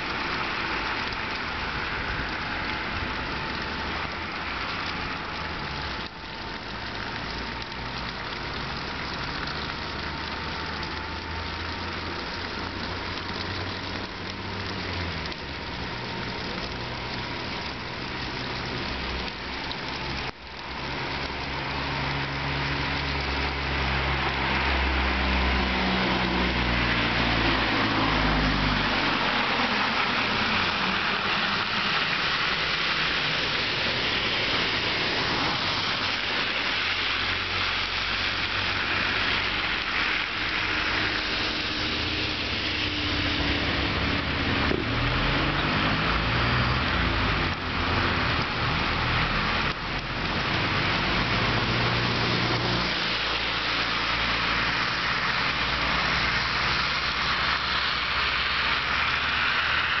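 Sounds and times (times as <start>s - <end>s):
low engine hum: 0.0s - 60.0s
tyre and road noise on snow: 0.0s - 60.0s.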